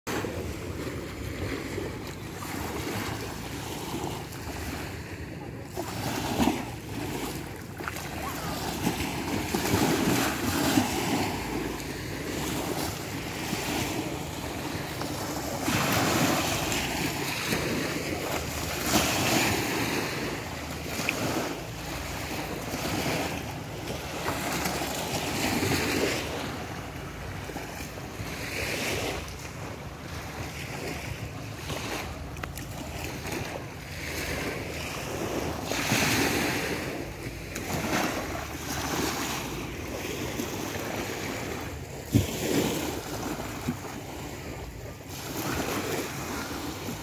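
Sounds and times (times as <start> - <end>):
small waves breaking on shore: 0.1 - 47.0.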